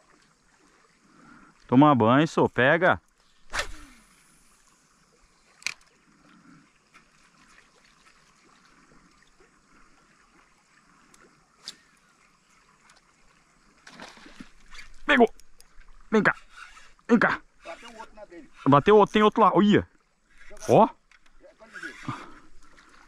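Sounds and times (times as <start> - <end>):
river water trickling and lapping: 0.0 - 23.0.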